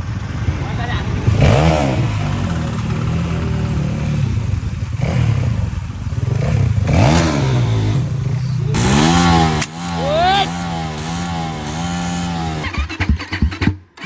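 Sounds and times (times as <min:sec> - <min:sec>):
small motorcycle engine revving: 0:00.0 - 0:14.0.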